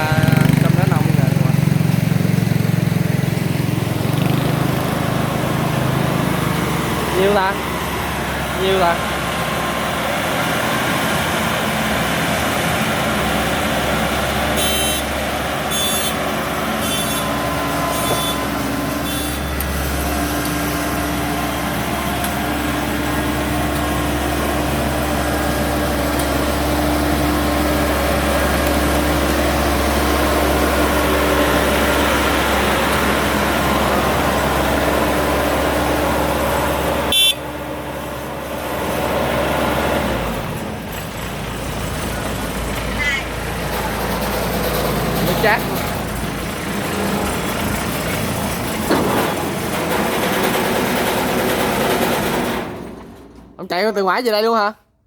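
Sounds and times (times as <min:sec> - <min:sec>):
diesel engine running: 0:00.0 - 0:54.7.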